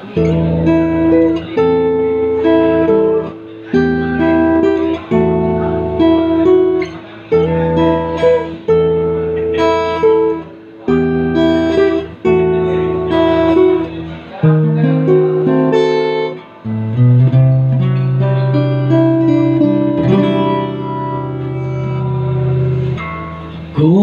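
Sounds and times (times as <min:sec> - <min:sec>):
guitar music: 0:00.0 - 0:24.0.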